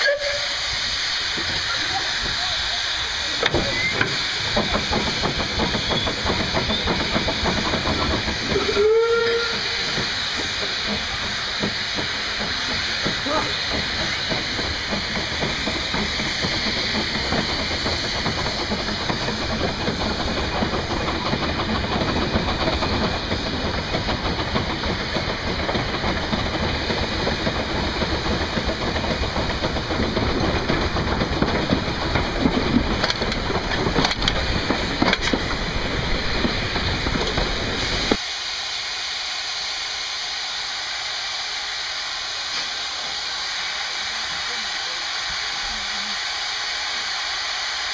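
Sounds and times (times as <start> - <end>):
steam hissing: 0.0 - 47.9
steam locomotive running: 0.0 - 47.9.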